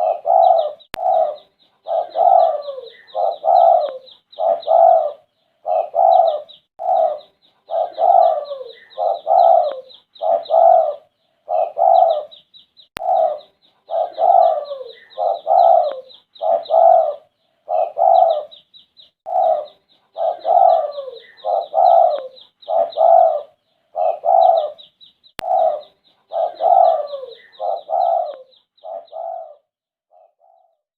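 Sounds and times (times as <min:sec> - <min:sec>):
dove cooing: 0:00.0 - 0:12.4, 0:13.0 - 0:18.6, 0:19.3 - 0:30.8.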